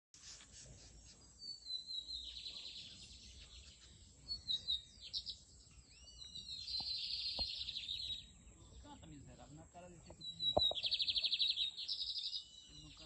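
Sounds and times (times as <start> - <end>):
bird singing trilled phrases: 0.2 - 13.0.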